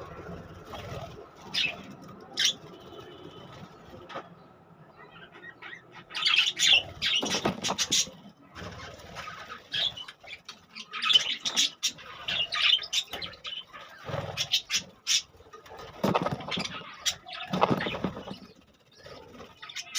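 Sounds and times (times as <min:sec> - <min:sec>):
budgerigars chirping and squawking: 0:00.0 - 0:03.2, 0:04.9 - 0:19.9.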